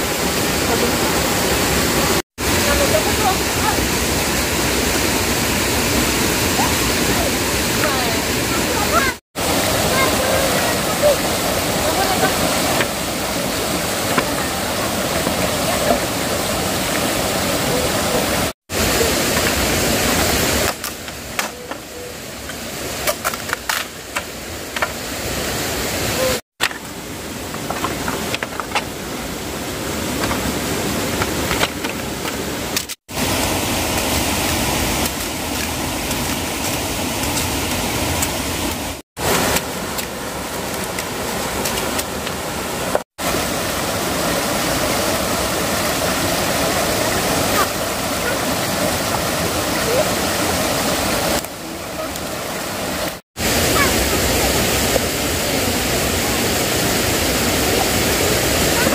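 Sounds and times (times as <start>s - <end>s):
stream water flowing: 0.0s - 58.9s.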